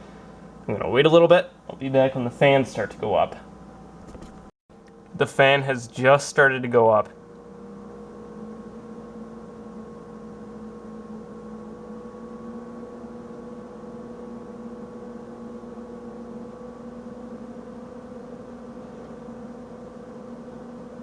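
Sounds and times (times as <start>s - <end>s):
server cooling fans humming: 0.0s - 21.0s.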